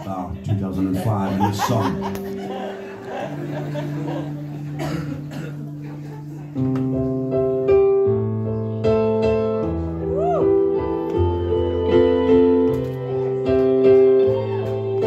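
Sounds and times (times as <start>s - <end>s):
keyboard piano chords: 0.0s - 15.0s.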